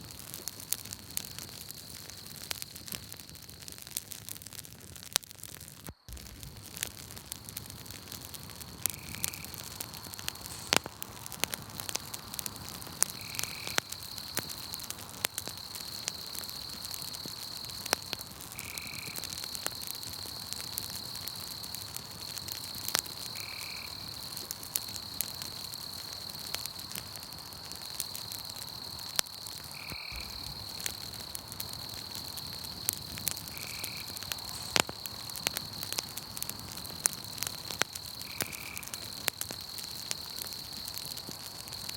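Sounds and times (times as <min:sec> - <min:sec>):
campfire crackling and popping: 0:00.0 - 0:41.9
night insects trilling: 0:05.7 - 0:41.9.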